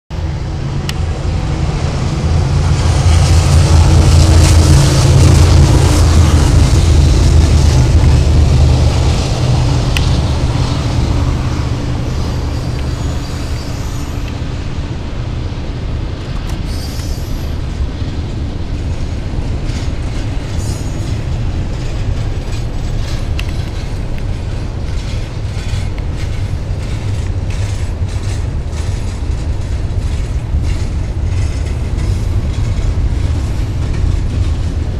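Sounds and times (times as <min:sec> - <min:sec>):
freight train rumbling past: 0:00.1 - 0:34.9
train wheels clicking: 0:02.2 - 0:34.9.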